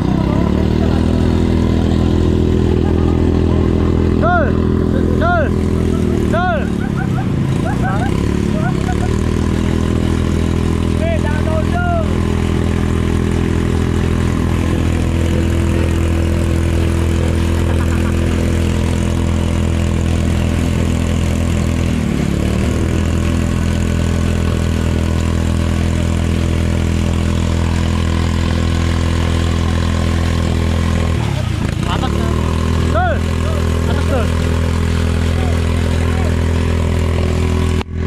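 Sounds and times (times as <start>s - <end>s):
pump engine running: 0.0s - 38.0s.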